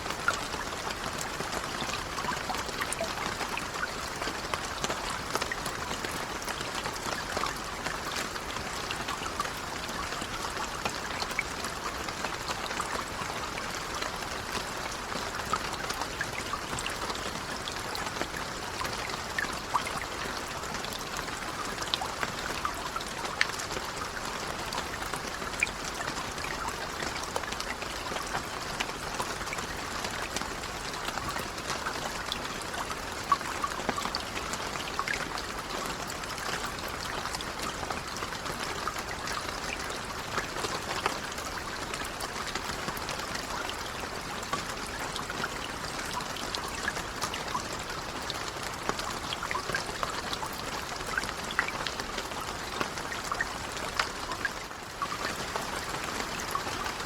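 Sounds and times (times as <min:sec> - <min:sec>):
gentle rain pattering: 0:00.0 - 0:57.0.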